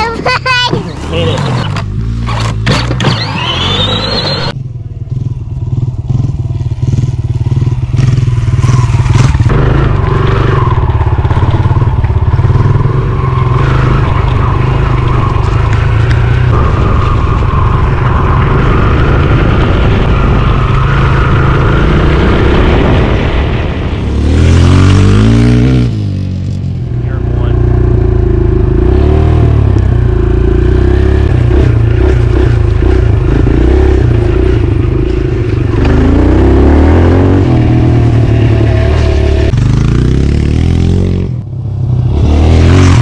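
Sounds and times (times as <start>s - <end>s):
dirt bike engine running: 1.2s - 43.0s.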